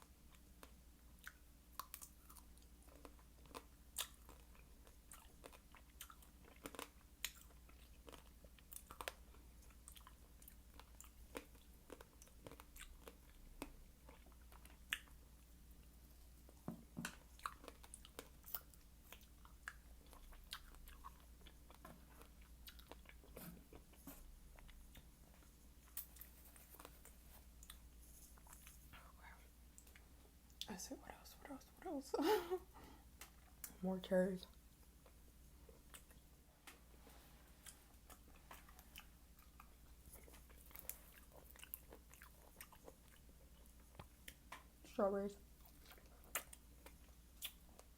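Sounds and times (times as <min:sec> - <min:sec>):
chewing fruit: 0:00.0 - 0:30.8, 0:34.4 - 0:36.8, 0:37.4 - 0:47.9.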